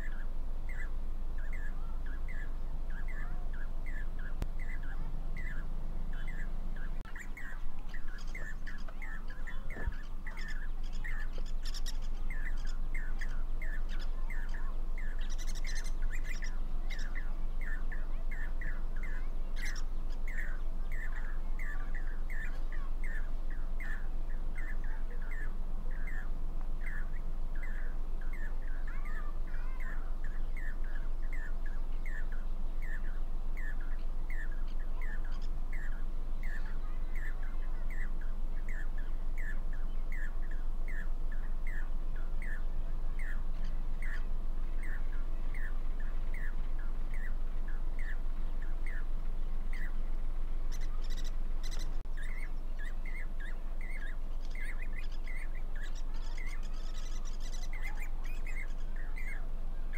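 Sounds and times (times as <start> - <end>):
cuckoos calling: 0.0 - 59.9.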